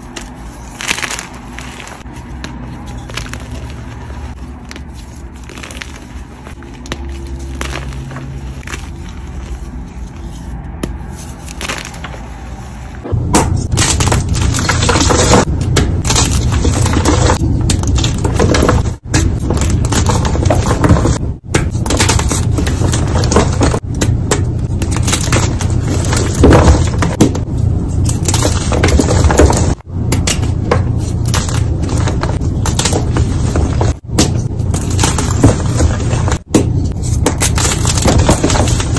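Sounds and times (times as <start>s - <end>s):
chalk blocks crunching: 0.0s - 12.4s, 13.7s - 24.1s, 24.7s - 38.9s
powdery chalk crumbling: 0.0s - 12.4s, 13.5s - 38.9s.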